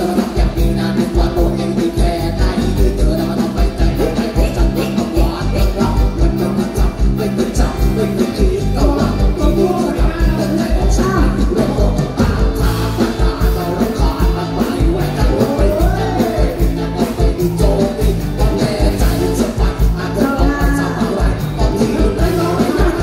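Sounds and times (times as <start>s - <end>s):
drums beating: 0.0s - 23.0s
live band playing: 0.0s - 23.0s
person singing: 0.0s - 23.0s.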